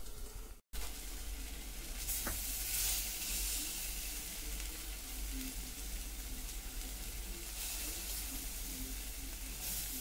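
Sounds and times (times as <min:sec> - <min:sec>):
chicken sizzling in frying pan: 0:00.0 - 0:10.0.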